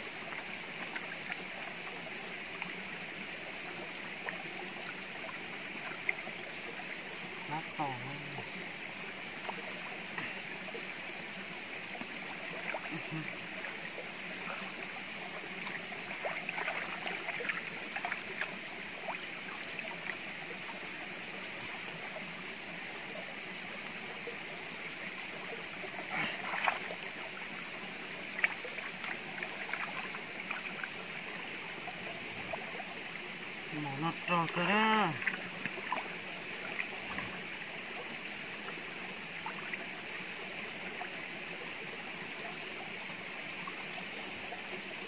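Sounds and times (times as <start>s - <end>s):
splashing and sloshing water: 0.0s - 45.0s
stream running over rock: 0.0s - 45.0s.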